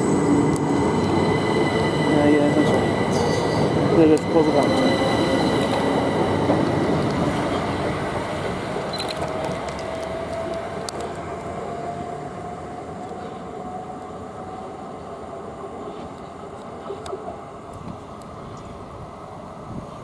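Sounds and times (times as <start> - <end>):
train traction motor whine: 0.0 - 16.0
train running noise: 0.0 - 20.0.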